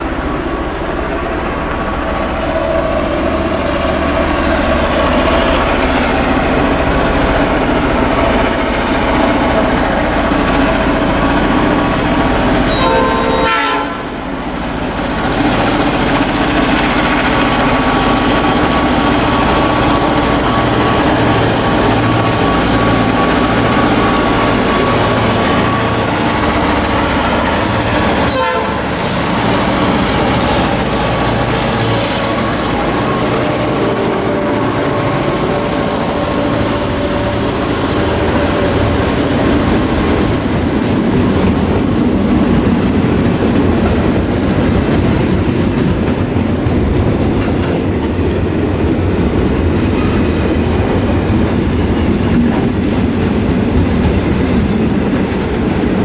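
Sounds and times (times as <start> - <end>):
diesel locomotive engine drone: 0.0 - 56.0
train wagon and wheel noise: 0.0 - 56.0.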